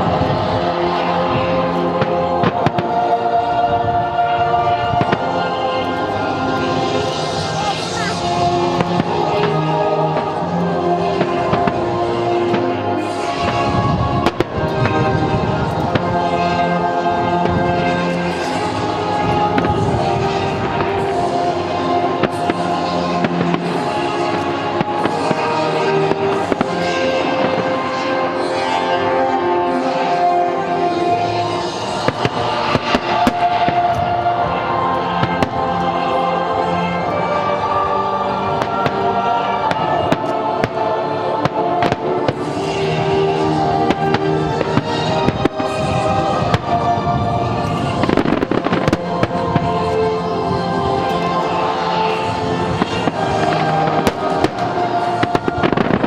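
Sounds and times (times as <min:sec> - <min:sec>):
fireworks bursting and crackling: 0:00.0 - 0:56.0
music soundtrack: 0:00.0 - 0:56.0.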